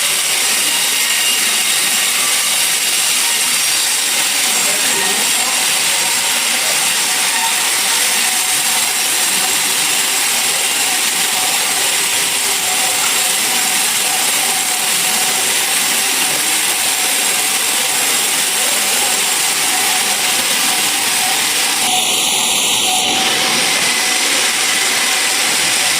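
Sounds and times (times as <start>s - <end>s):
saw cutting through log: 0.0s - 25.9s.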